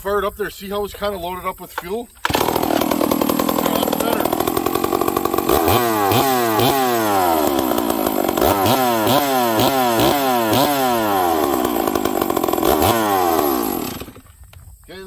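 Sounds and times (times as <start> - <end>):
chainsaw revving and idling: 2.2 - 14.4.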